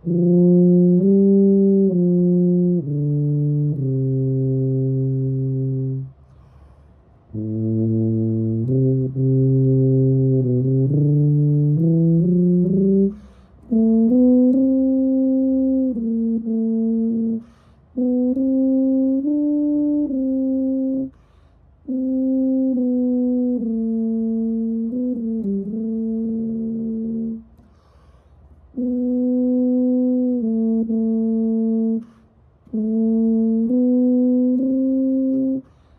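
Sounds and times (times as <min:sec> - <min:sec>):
solo tuba playing: 0:00.0 - 0:06.6, 0:07.2 - 0:35.9.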